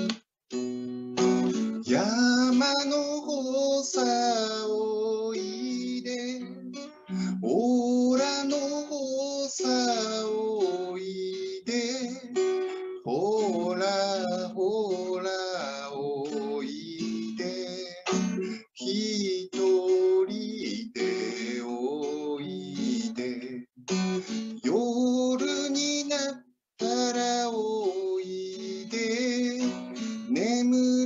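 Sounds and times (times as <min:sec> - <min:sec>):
strummed acoustic guitar: 0:00.0 - 0:31.0
man singing slow song: 0:01.8 - 0:31.0.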